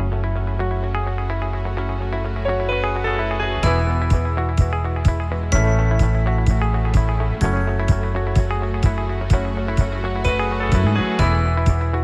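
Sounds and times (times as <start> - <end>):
intro music with steady beat: 0.0 - 12.0.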